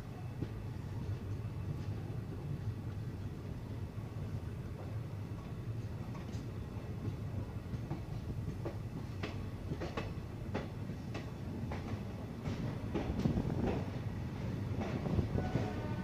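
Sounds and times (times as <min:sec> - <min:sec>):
low rumble of running train: 0:00.0 - 0:16.0.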